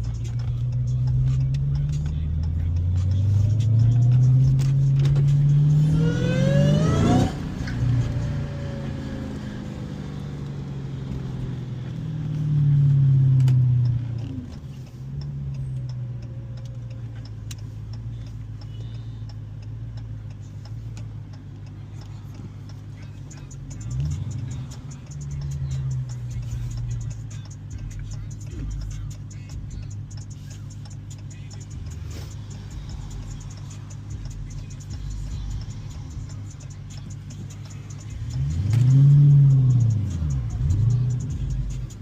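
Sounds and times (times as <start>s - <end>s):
car engine revving: 0.0s - 42.0s.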